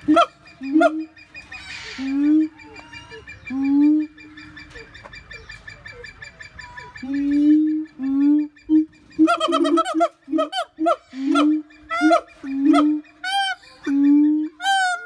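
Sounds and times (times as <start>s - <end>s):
ape hooting calls: 0.0s - 15.0s.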